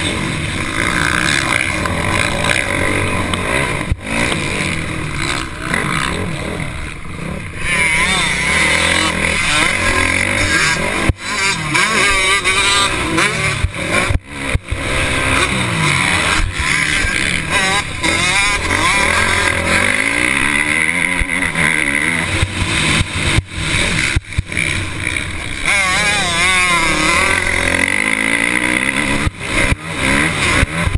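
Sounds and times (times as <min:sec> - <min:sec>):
motocross bike engine revving: 0:00.0 - 0:30.9.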